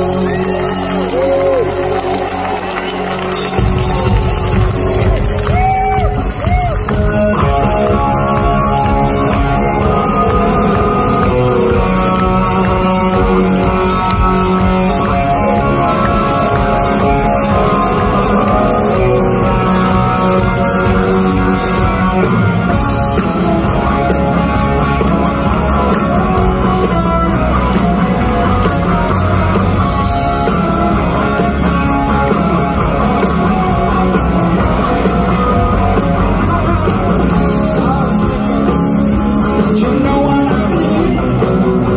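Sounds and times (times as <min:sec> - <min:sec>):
bass guitar: 0:00.0 - 0:41.9
electric guitar: 0:00.0 - 0:41.9
steady drum beat: 0:00.0 - 0:41.9.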